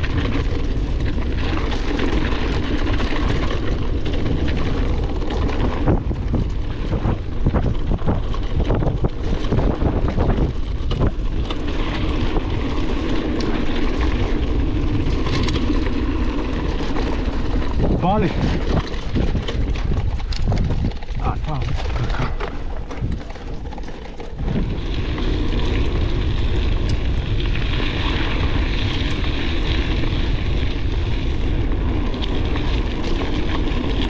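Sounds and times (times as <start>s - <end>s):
bike knocks and rattles: 0.0s - 34.0s
wind buffeting microphone: 0.0s - 34.0s.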